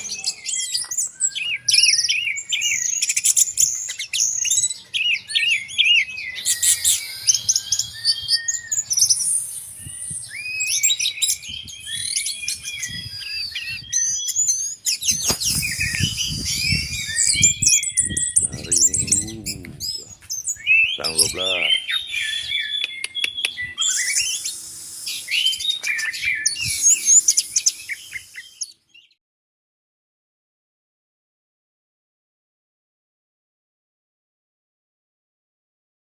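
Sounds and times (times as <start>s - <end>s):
bird singing whistles and chatter: 0.0s - 29.2s.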